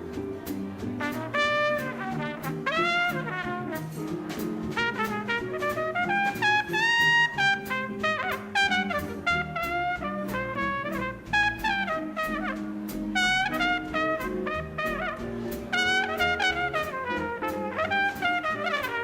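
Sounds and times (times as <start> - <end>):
steady drum beat: 0.0 - 19.0
upright bass: 0.0 - 19.0
backing horns: 0.7 - 19.0
brass horn solo: 1.0 - 19.0.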